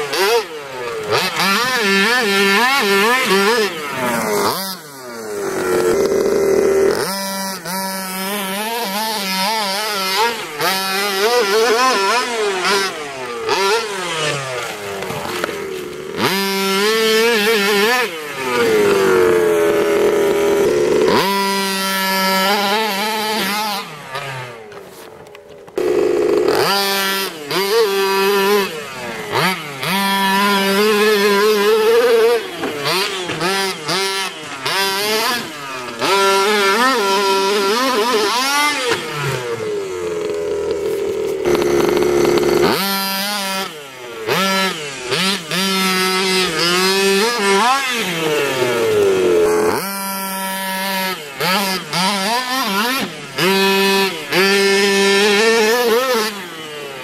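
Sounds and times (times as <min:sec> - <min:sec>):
small petrol engine revving: 0:00.0 - 0:57.0.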